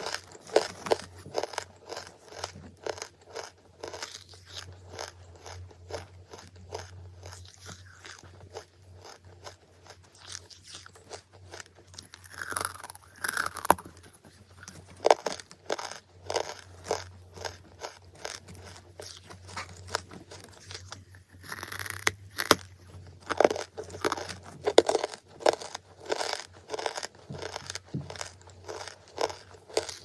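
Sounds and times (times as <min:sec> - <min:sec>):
chewing charcoal crunches: 0:00.0 - 0:30.0
faint low hum: 0:00.0 - 0:30.0.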